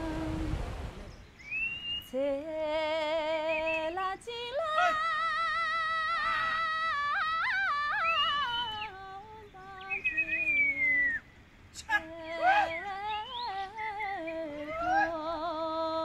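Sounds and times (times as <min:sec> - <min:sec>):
person singing with vibrato: 0:02.1 - 0:11.1, 0:11.8 - 0:16.0.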